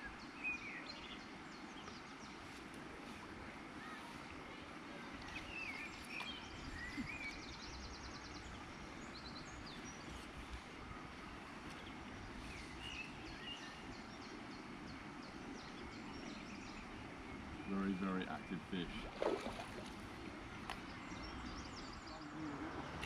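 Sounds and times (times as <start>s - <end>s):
outdoor background hiss: 0.0s - 23.0s
small birds singing: 0.0s - 23.0s.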